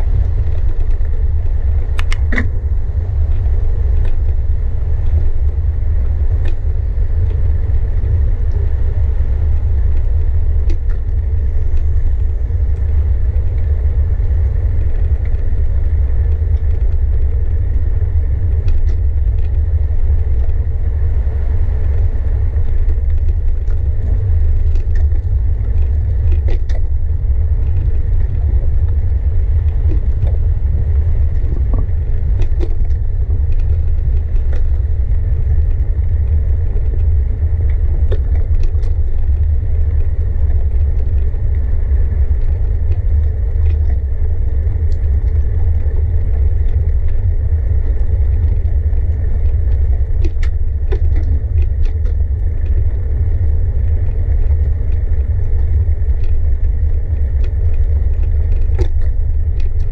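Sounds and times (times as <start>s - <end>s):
bicycle tyres on road: 0.0s - 59.9s
small rattles and clicks: 0.0s - 59.9s
wind buffeting microphone: 0.0s - 59.9s.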